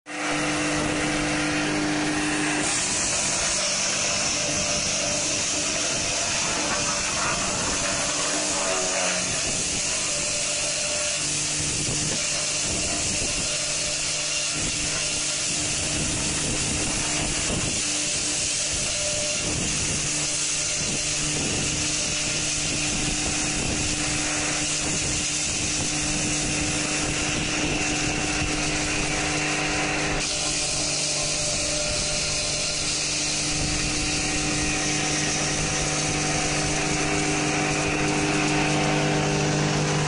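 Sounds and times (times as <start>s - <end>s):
wood chipper whirring: 0.1s - 40.0s.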